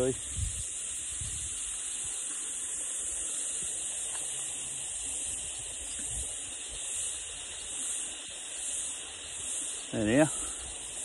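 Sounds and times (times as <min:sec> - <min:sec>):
cicada chorus: 0:00.0 - 0:11.0.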